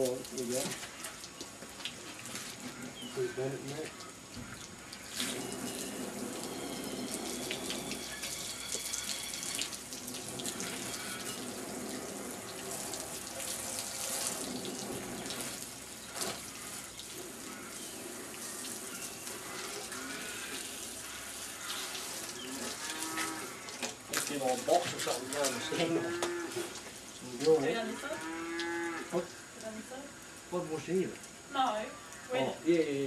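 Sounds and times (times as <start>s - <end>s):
water splashing from a hose: 0.0s - 31.8s.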